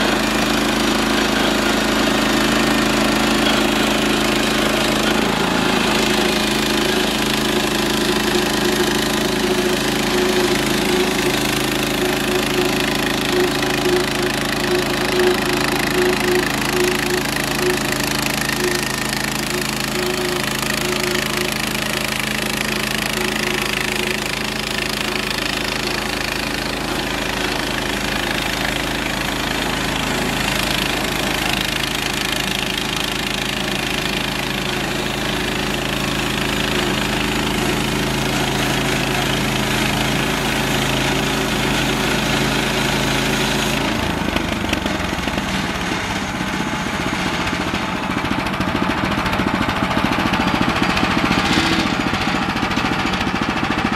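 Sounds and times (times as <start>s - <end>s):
sawmill gasoline engine running: 0.0s - 53.9s.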